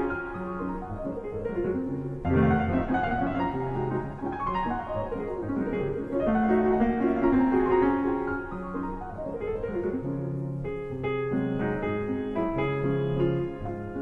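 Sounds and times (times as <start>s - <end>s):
piano background music: 0.0s - 14.0s.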